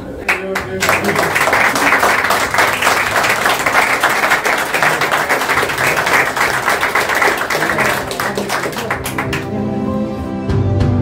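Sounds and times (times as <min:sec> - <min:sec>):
people clapping: 0:00.2 - 0:09.6.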